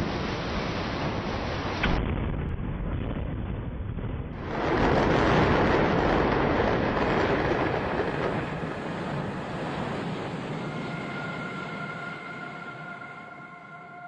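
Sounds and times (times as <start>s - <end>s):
loud rushing rumble: 0.0s - 13.6s.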